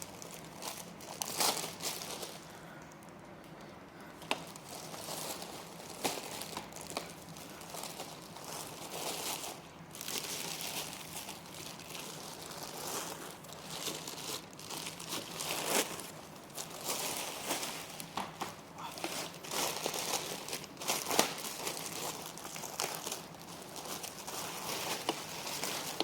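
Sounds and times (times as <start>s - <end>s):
plastic wrap crinkling: 0.0s - 3.1s, 4.1s - 26.0s.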